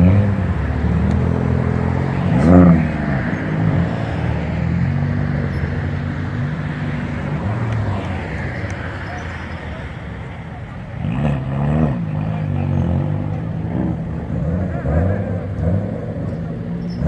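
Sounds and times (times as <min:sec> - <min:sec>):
car engine revving: 0:00.0 - 0:17.0
other car engines: 0:00.0 - 0:17.0.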